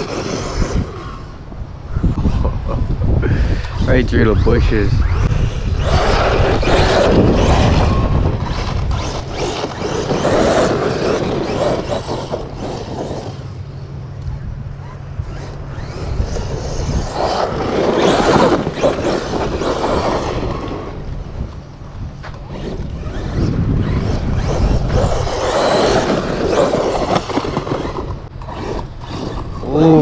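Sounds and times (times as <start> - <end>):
rc truck crashing through bushes: 0.0 - 1.3, 5.0 - 13.6, 14.8 - 21.3, 22.3 - 30.0.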